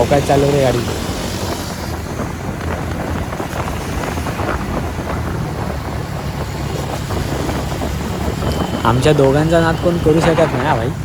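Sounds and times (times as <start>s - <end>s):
scooter engine and road rumble: 0.0s - 11.0s
wind rushing over microphone: 0.0s - 11.0s.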